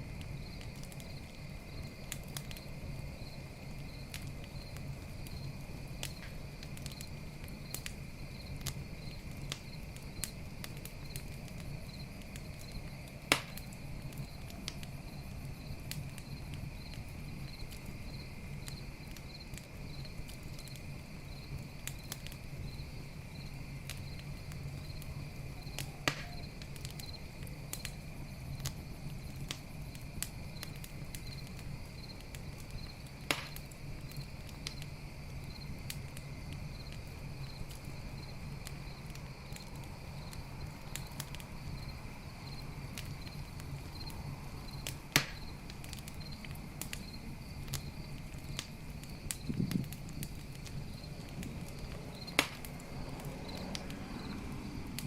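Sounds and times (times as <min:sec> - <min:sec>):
campfire crackling and popping: 0:00.0 - 0:55.0
night insects chirping: 0:00.0 - 0:55.0.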